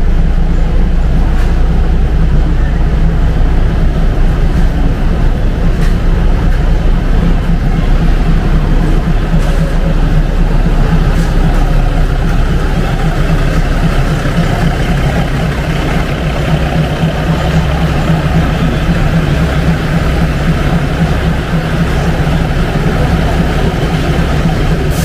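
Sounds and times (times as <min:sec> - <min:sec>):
large engine idling: 0:00.0 - 0:25.0.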